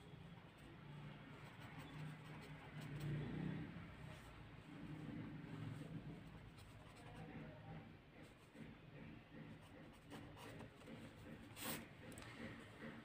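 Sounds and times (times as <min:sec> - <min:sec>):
pen scratching on paper: 0:01.3 - 0:03.7, 0:04.9 - 0:13.0.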